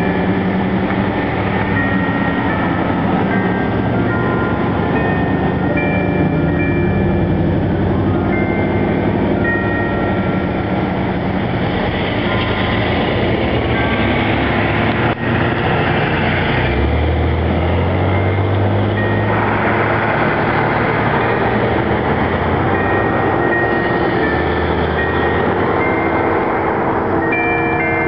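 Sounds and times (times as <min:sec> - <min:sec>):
church bell chimes: 0:00.0 - 0:28.0
loud steady rumbling: 0:00.0 - 0:28.0.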